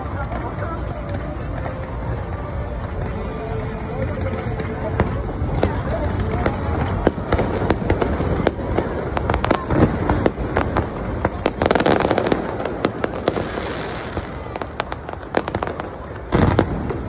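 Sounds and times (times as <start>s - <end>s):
fireworks cracks and pops: 0.0s - 17.0s.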